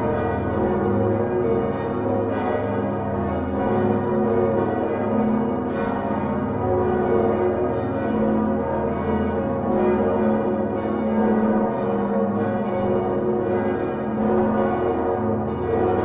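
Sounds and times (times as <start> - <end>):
church bells pealing: 0.0 - 16.0
deep hum of large bell: 0.0 - 16.0.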